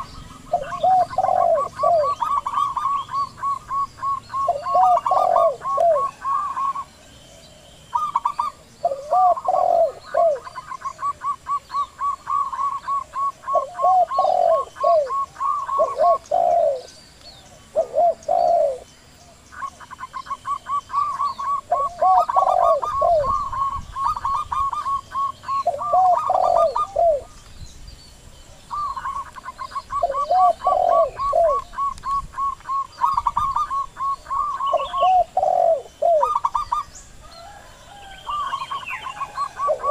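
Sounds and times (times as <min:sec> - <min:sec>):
fast high dove coos: 0:00.0 - 0:06.9, 0:07.9 - 0:16.9, 0:17.7 - 0:18.9, 0:19.5 - 0:27.4, 0:28.7 - 0:39.9
low arching dove coos: 0:00.0 - 0:27.4, 0:28.5 - 0:39.9.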